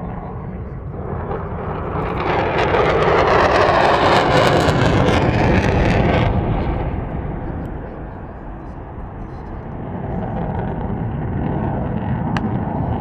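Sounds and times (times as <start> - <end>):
jet aircraft passing low: 0.0 - 13.0.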